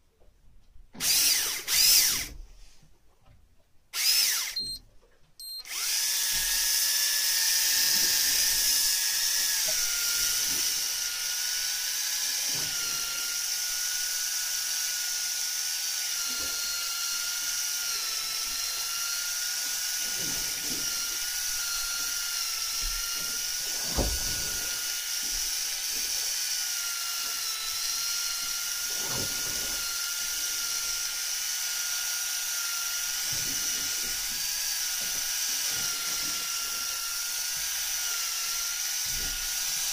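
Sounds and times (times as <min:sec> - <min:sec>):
fishing reel motor whining: 0:01.0 - 0:02.3, 0:04.0 - 0:04.8, 0:05.6 - 0:39.9.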